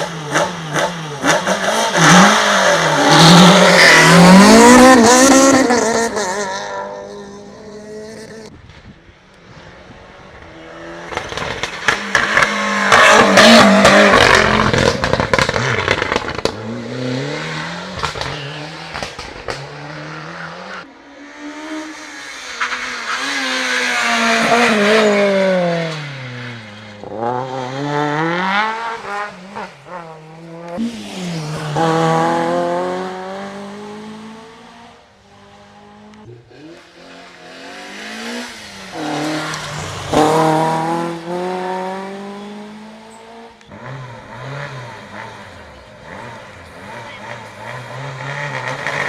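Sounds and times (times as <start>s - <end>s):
rally cars accelerating past: 9.5s - 49.0s.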